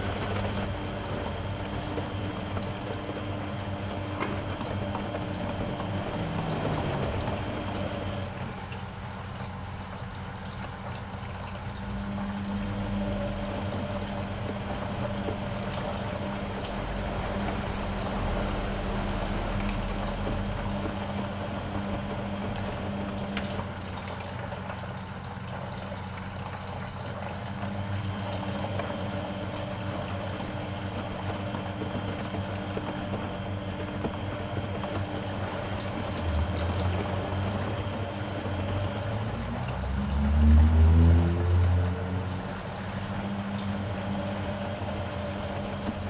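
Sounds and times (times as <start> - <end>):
washing machine motor hum: 0.0 - 46.0
water sloshing in drum: 0.0 - 46.0.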